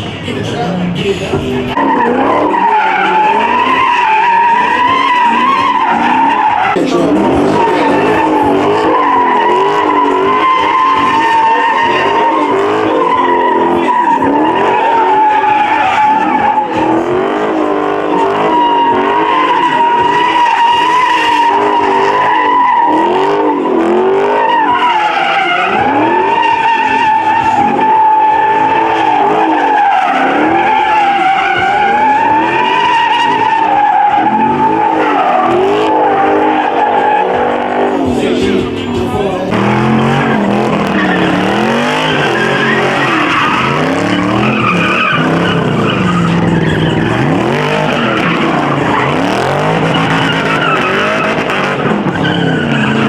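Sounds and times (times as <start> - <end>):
car engine revving: 0.0 - 53.0
tires squealing: 0.0 - 53.0.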